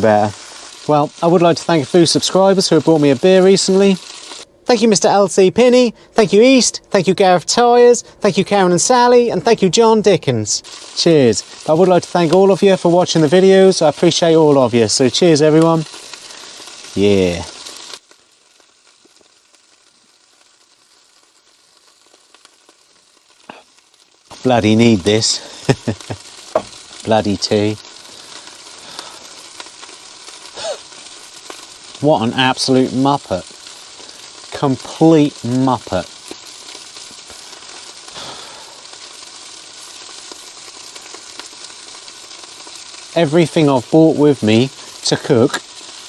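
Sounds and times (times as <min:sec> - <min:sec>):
meat sizzling and crackling: 0:00.0 - 0:46.0.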